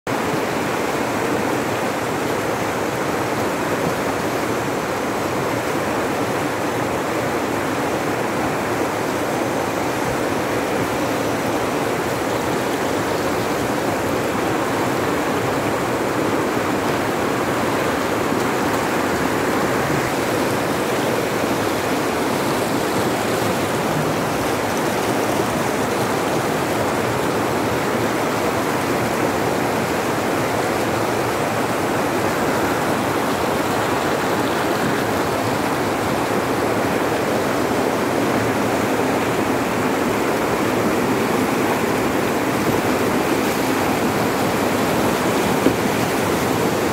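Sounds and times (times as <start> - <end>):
river rapids rushing: 0.1 - 46.9.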